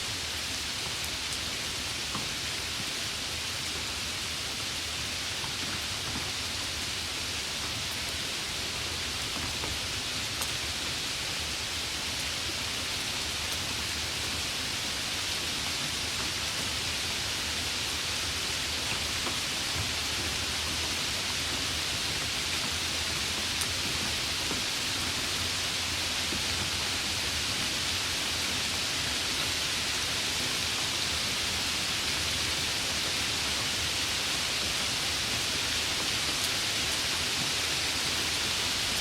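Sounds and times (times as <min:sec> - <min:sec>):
heavy rain falling: 0:00.1 - 0:39.0.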